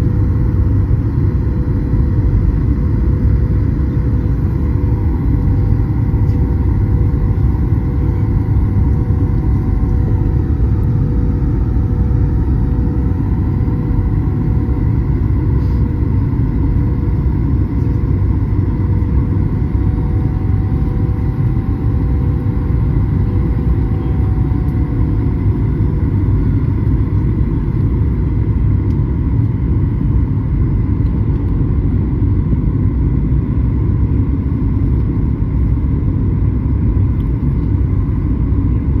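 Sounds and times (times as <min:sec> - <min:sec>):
airliner cabin rumble: 0:00.0 - 0:39.0
constant hum: 0:00.0 - 0:39.0.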